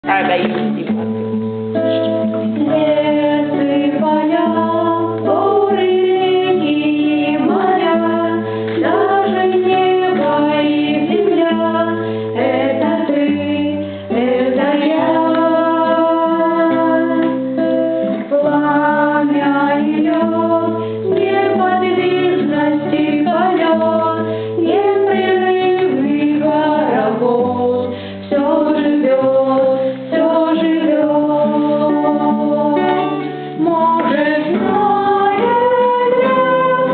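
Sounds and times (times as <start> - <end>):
person singing: 1.9 - 36.9.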